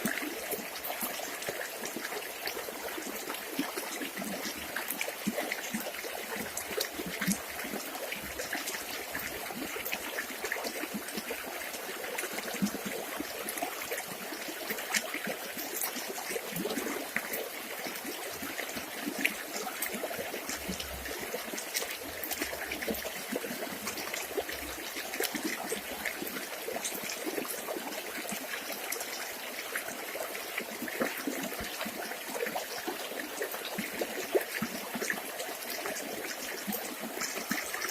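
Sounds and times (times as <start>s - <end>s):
river water babbling over stones: 0.0s - 37.9s.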